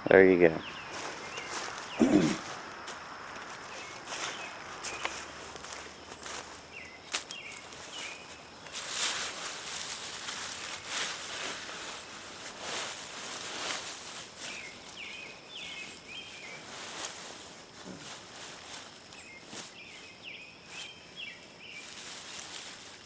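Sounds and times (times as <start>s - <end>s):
foliage and soil rustling: 0.5s - 23.0s.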